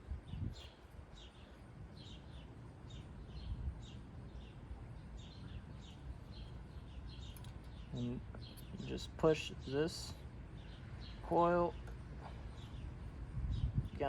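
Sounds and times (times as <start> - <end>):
small bird chirping: 0.2 - 14.0.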